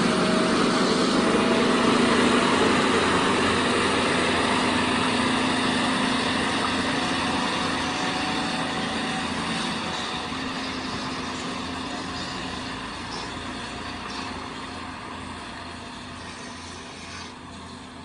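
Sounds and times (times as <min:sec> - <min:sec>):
large vehicle engine running: 0:00.0 - 0:18.0.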